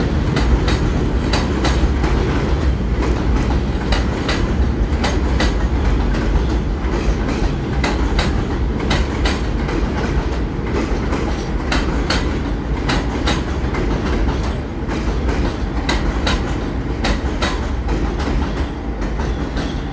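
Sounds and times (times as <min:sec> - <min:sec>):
subway train wheels clacking: 0:00.0 - 0:19.9
train low rumble: 0:00.0 - 0:19.9.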